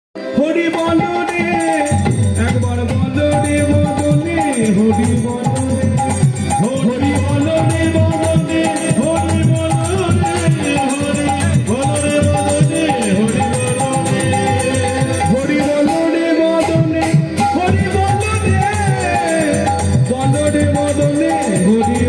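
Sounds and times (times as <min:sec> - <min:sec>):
keyboard melody: 0:00.2 - 0:22.0
high jingling rhythm: 0:00.6 - 0:22.0.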